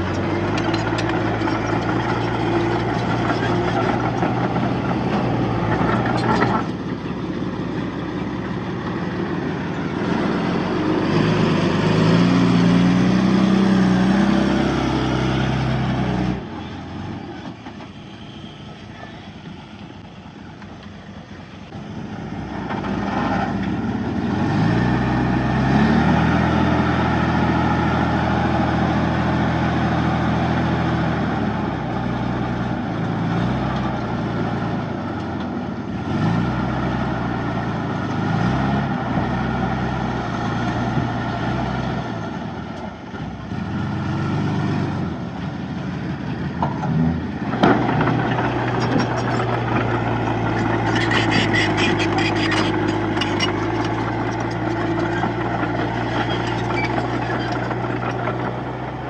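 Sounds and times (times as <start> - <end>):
bulldozer diesel engine revving: 0.0 - 19.3, 22.0 - 59.0.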